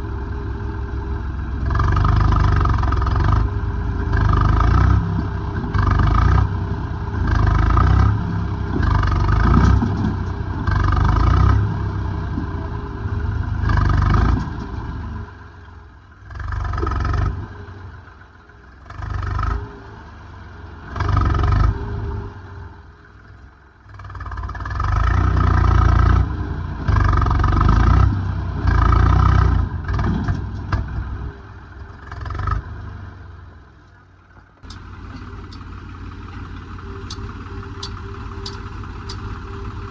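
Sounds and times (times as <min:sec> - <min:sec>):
diesel engine revving: 0:00.0 - 0:33.7, 0:34.6 - 0:39.9.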